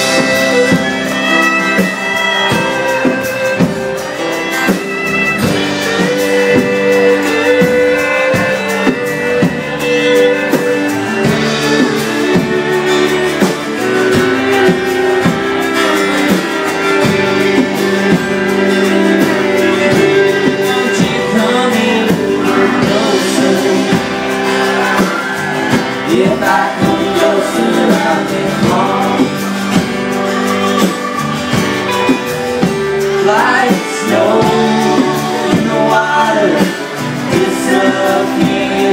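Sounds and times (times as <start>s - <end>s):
fiddle bowing: 0.0s - 38.5s
strummed acoustic guitars: 0.0s - 38.9s.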